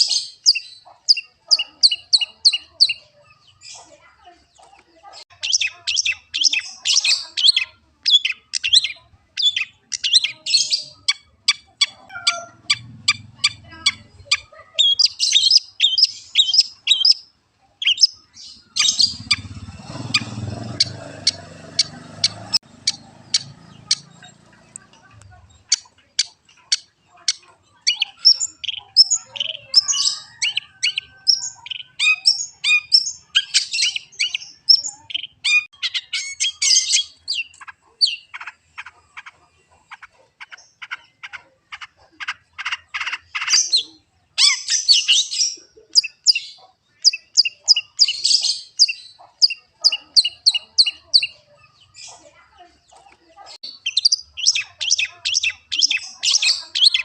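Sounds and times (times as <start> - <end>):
bird chattering and trilling: 0.0 - 57.0.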